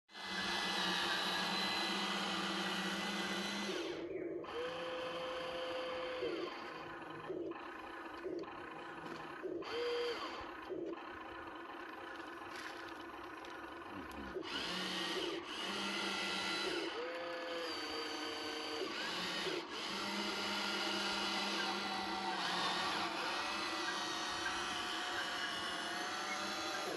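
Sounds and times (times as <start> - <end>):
small electric motors whirring: 0.1 - 26.9.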